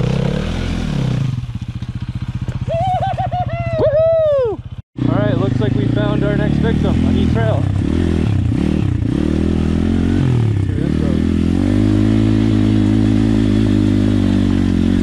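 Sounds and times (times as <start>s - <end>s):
small motorcycle engine revving: 0.0s - 15.0s.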